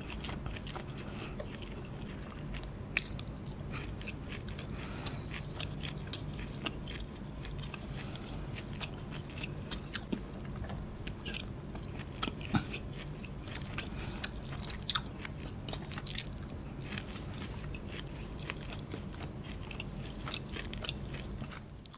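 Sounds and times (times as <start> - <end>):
person chewing noodles: 0.0 - 21.9
steady low hum: 0.0 - 21.9.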